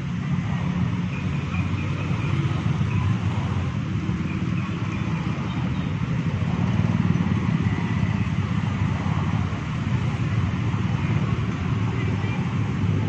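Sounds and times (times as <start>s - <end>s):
motorcycle and car engines: 0.0s - 13.0s.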